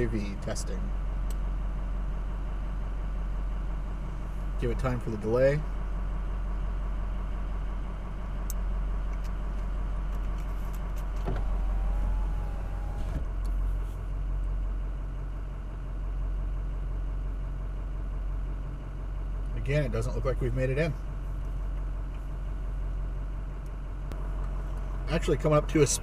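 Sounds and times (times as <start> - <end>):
pickup truck engine idling: 0.0 - 26.0.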